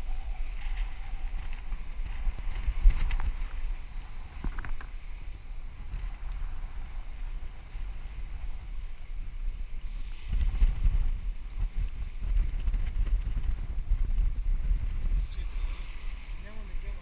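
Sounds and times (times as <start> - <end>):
sea rushing along hull: 0.0 - 17.0
wind buffeting microphone: 0.0 - 17.0.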